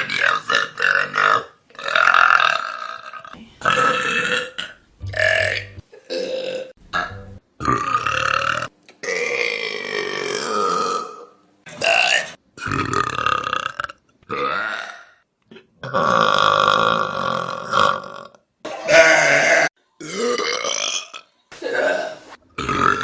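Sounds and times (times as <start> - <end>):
loud human burps: 0.8 - 23.0.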